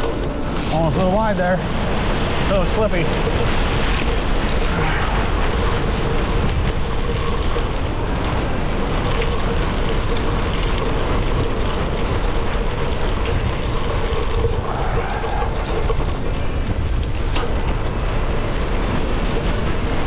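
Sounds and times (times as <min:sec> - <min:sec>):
bike tyres on gravel: 0:00.0 - 0:20.0
wind rush on microphone: 0:00.0 - 0:20.0.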